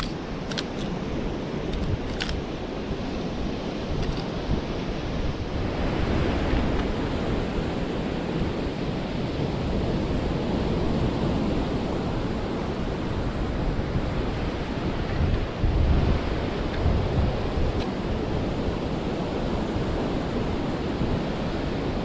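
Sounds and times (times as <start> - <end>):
ocean surf washing ashore: 0.0 - 22.0
wind buffeting microphone: 0.0 - 22.0.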